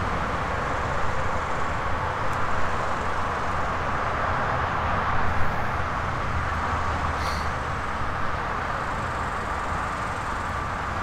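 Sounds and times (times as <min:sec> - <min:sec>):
distant road traffic hum: 0:00.0 - 0:11.0.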